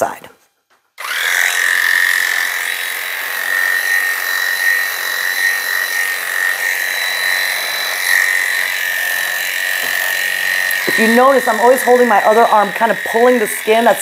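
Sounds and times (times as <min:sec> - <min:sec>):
electric clippers whining: 0:01.0 - 0:14.0.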